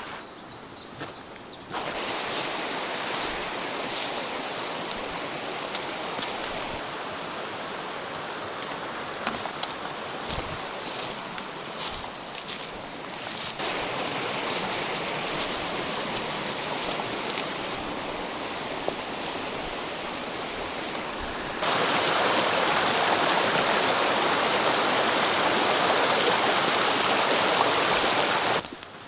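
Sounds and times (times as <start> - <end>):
stream water rushing: 1.7 - 28.6.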